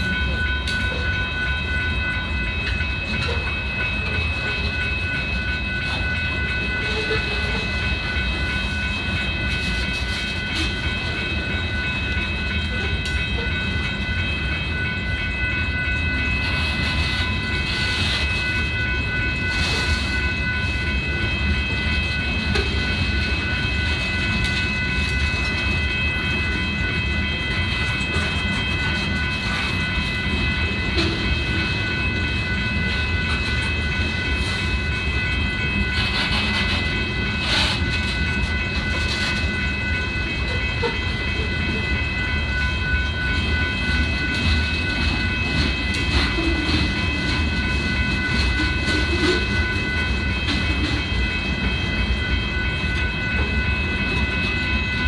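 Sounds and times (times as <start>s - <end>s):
freight train rumbling past: 0.0s - 55.0s
high-pitched ringing: 0.0s - 55.0s.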